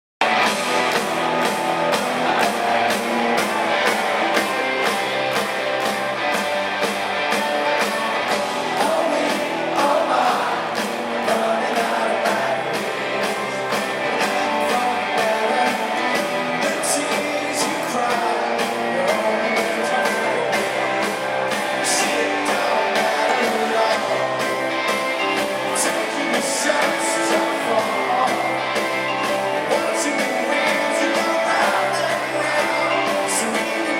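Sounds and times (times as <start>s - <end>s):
drums: 0.2s - 33.9s
electric guitars: 0.2s - 33.9s.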